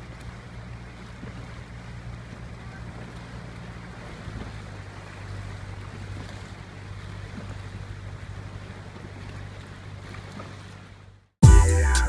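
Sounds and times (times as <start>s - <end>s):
oars swishing through water: 0.0s - 11.3s.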